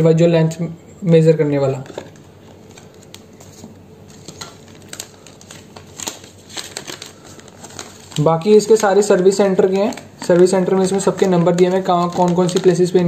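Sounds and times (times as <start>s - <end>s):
paper rustling and crinkling: 1.6s - 13.0s.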